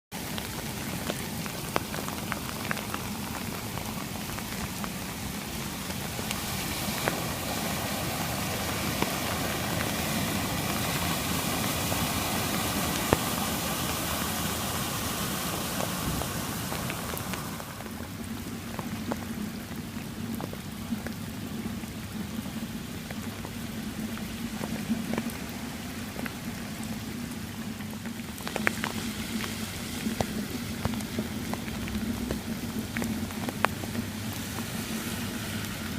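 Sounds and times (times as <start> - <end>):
heavy rain: 0.1 - 35.9
rushing floodwater: 0.2 - 35.9.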